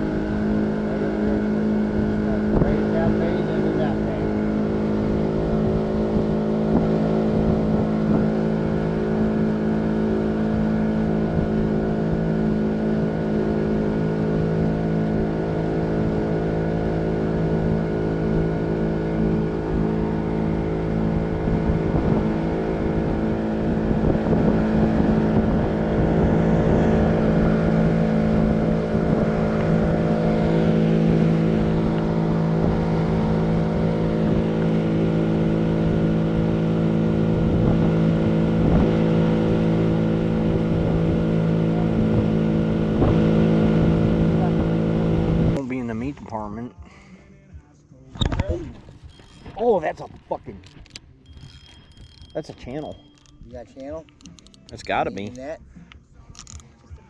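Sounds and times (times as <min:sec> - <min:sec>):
outboard motor droning: 0:00.0 - 0:47.2, 0:48.2 - 0:57.0.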